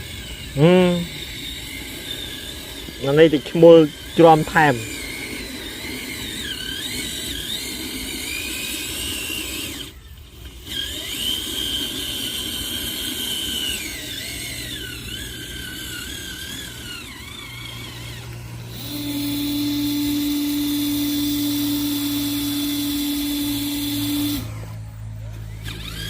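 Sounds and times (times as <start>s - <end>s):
toy truck motor whining: 0.0s - 26.0s.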